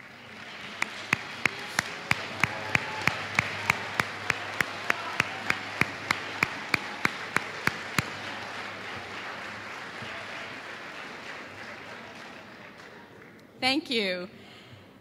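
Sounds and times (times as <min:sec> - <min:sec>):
audience applauding: 0:00.0 - 0:13.4
loud evenly spaced claps: 0:00.0 - 0:13.5.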